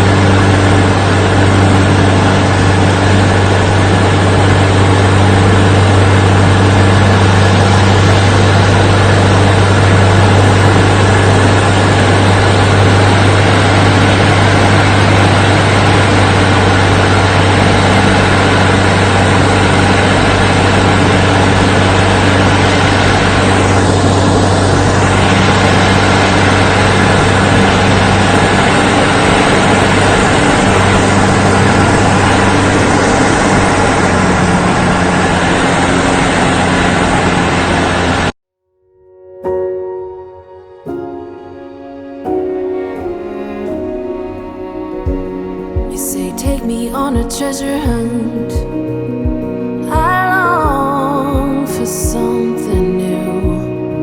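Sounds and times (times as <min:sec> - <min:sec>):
engine low drone: 0:00.0 - 0:38.3, 0:43.0 - 0:54.0.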